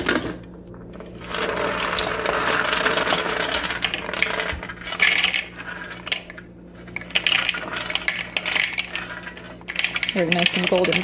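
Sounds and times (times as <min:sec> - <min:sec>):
nuts clattering into plastic bowl: 0:01.3 - 0:06.4, 0:07.0 - 0:11.0.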